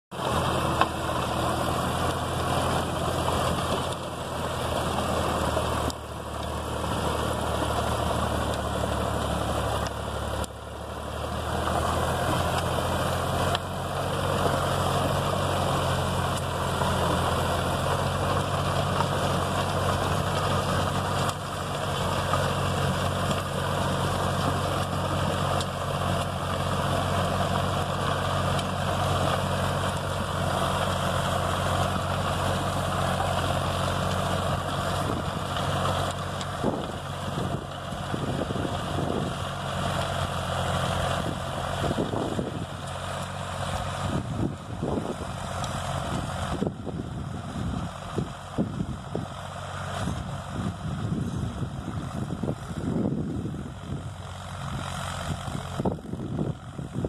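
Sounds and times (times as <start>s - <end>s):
rotavator churning soil: 0.1s - 57.0s
tractor engine drone: 0.1s - 57.0s.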